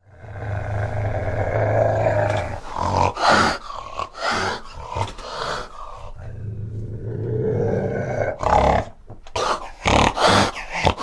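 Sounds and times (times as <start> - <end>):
animal growling and snarling: 0.0 - 11.0.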